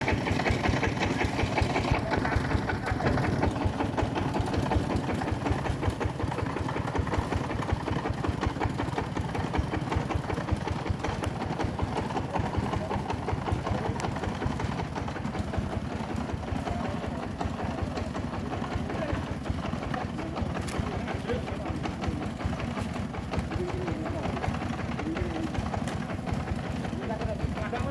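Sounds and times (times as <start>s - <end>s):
sawmill engine pulsing: 0.0s - 27.9s.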